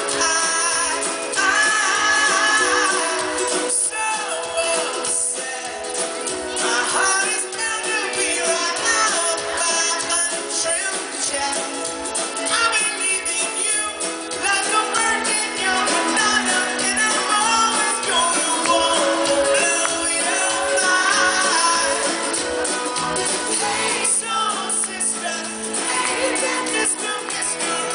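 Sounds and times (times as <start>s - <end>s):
man singing: 0.0s - 22.6s, 23.5s - 27.9s
drum kit beat: 0.0s - 27.9s
ukulele strumming: 0.0s - 27.9s.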